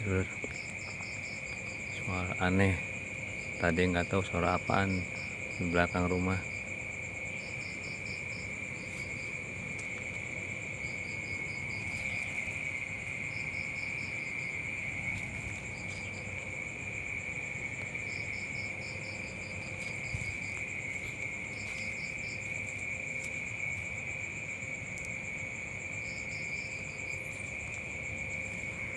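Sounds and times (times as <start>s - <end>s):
crickets trilling: 0.0s - 28.9s
faint high insect buzz: 0.0s - 28.9s
rapid cricket chirps: 0.0s - 28.9s.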